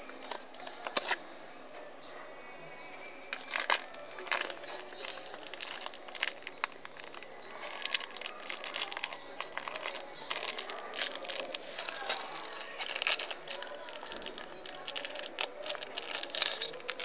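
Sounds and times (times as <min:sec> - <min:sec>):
plastic toy packaging crackling: 0:03.3 - 0:17.0.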